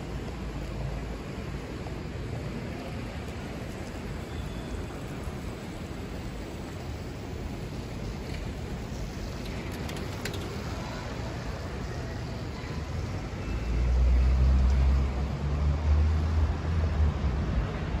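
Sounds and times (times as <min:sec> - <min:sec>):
distant traffic: 0:00.0 - 0:18.0
tyres hissing on wet road: 0:00.0 - 0:18.0.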